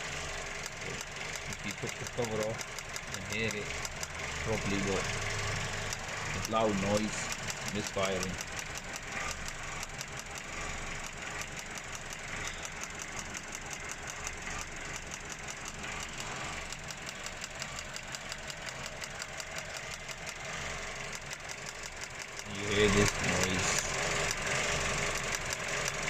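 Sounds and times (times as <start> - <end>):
car engine idling with misfire: 0.0 - 26.0.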